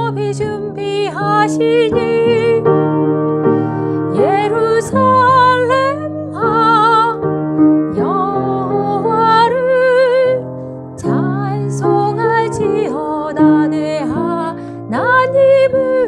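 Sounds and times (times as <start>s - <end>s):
woman singing with vibrato: 0.0s - 2.8s, 4.1s - 7.2s, 7.9s - 10.4s, 11.0s - 16.0s.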